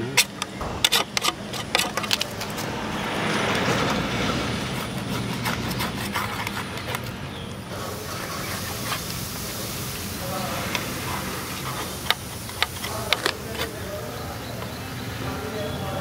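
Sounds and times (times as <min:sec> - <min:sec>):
tool scraping metal fan blades: 0:00.0 - 0:14.8.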